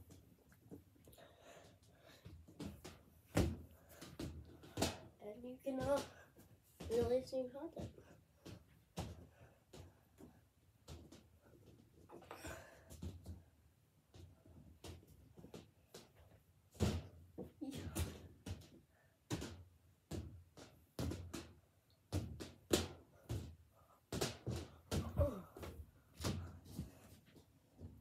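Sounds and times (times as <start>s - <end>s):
thumps and knocks of footsteps: 0.0s - 28.0s.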